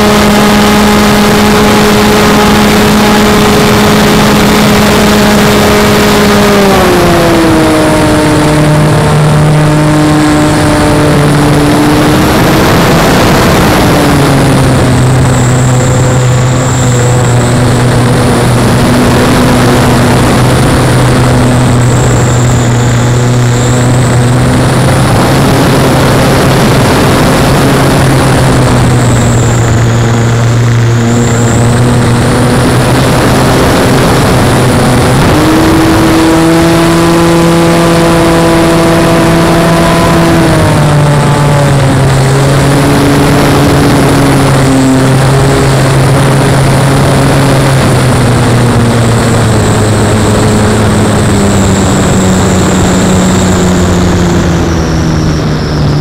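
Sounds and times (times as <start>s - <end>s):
model airplane engine at high power: 0.0s - 56.0s
wind rush: 0.0s - 56.0s.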